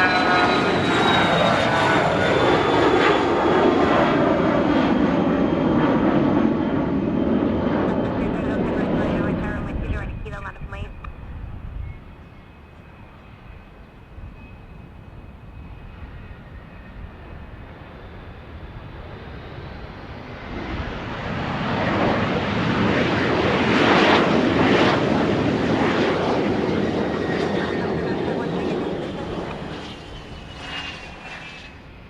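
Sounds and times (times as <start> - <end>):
airplane engine roar: 0.0 - 32.0.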